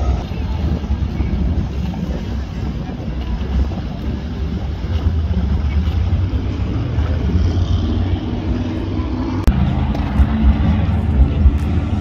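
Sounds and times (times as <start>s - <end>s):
outboard motors rumbling: 0.0s - 12.0s.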